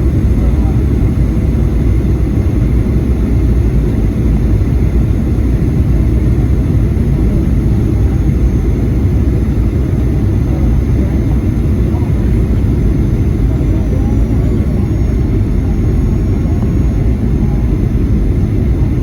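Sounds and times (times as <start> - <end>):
airplane cabin engine rumble: 0.0 - 19.0
faint steady tones: 0.0 - 19.0.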